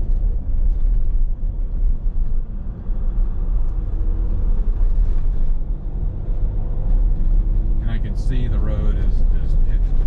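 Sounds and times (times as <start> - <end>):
low road and drivetrain rumble: 0.0 - 10.0.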